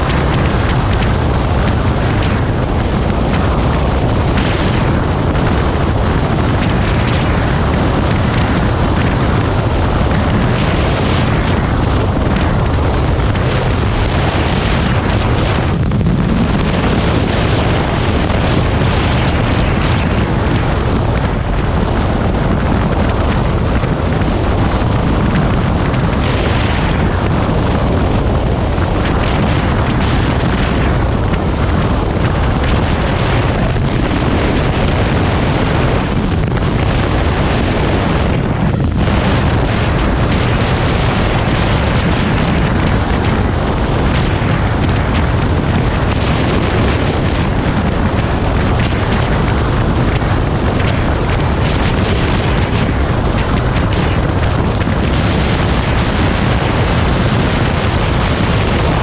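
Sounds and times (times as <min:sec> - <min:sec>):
road and engine noise: 0:00.0 - 0:59.0
wind buffeting microphone: 0:00.0 - 0:59.0.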